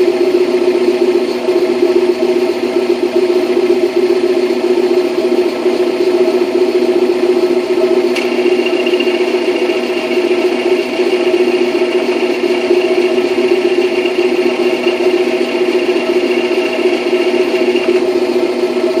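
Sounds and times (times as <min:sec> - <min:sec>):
steady high whine: 0:00.0 - 0:19.0
transmission whirring rattle: 0:00.0 - 0:19.0.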